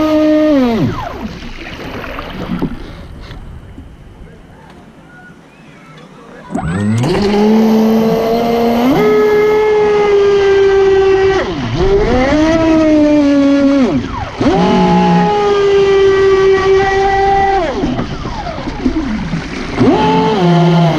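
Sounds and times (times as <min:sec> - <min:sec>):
water spraying off hull: 0:00.0 - 0:04.2, 0:06.2 - 0:20.9
rc boat motor whining: 0:00.0 - 0:20.9.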